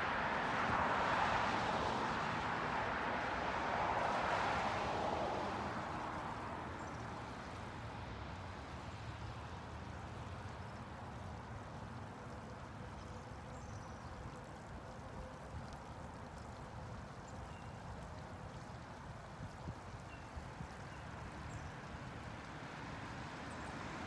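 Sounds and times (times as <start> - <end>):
road traffic: 0.0 - 24.0
water pouring onto concrete: 0.1 - 24.0.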